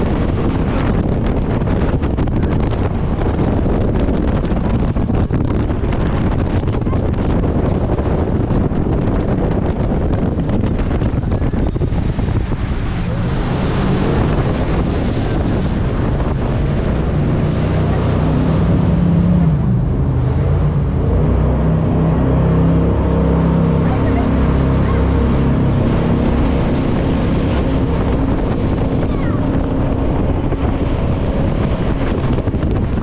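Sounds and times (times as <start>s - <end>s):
boat engine: 0.0s - 33.0s
rushing water: 0.0s - 33.0s
wind buffeting microphone: 0.0s - 33.0s.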